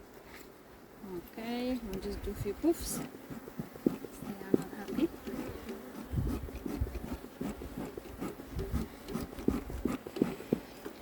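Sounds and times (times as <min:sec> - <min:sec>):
rubbing and scraping of hive: 0:01.6 - 0:11.0.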